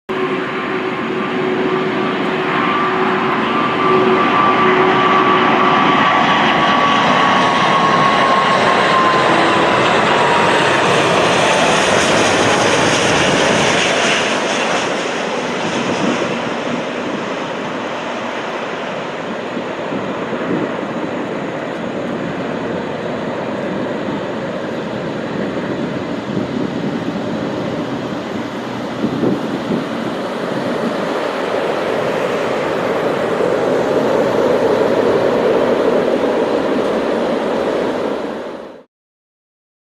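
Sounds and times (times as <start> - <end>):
high fan whine: 0.1 - 38.9
jet airliner roar: 0.1 - 38.9.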